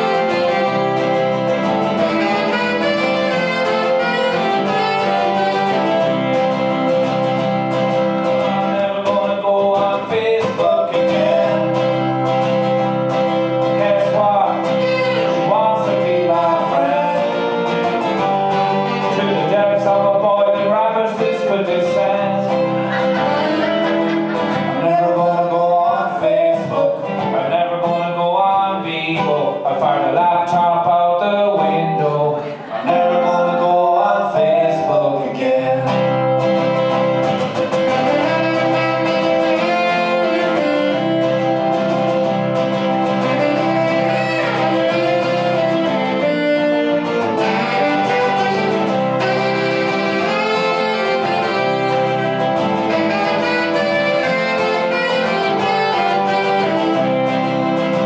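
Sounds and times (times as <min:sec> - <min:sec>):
saxophone melody: 0:00.0 - 0:27.4, 0:31.8 - 0:35.0, 0:35.9 - 0:58.0
acoustic guitar strumming: 0:00.0 - 0:58.0.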